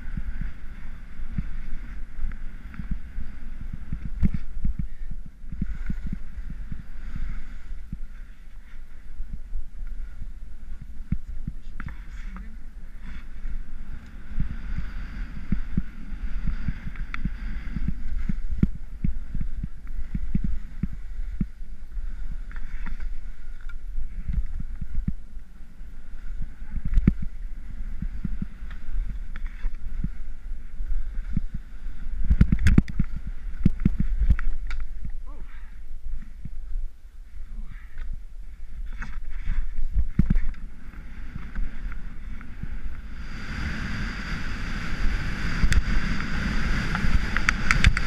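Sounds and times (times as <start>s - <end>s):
skis scraping over snow: 0.0s - 35.0s, 38.5s - 48.0s.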